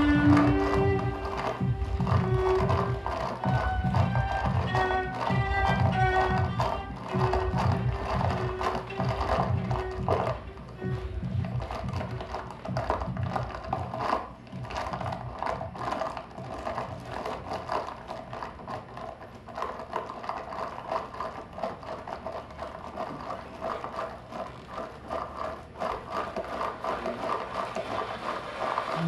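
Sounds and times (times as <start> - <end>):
rapid clicking and rattling: 0.0 - 29.0.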